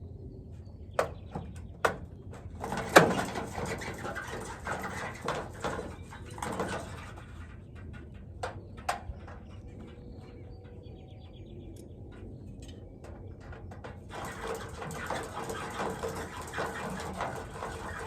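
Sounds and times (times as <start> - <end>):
rattling in metal downspout: 1.0 - 10.8, 12.1 - 18.0.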